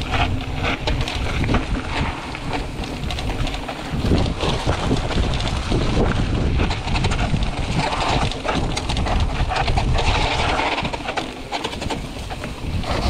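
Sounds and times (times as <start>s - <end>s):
bike rattling clicks: 0.0s - 13.0s
mountain bike rumbling: 0.0s - 13.0s
wind buffeting microphone: 0.0s - 13.0s.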